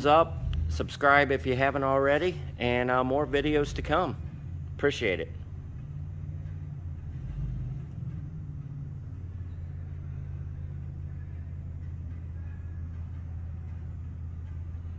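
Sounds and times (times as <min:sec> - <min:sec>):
low hum and rumble: 0:00.0 - 0:14.9.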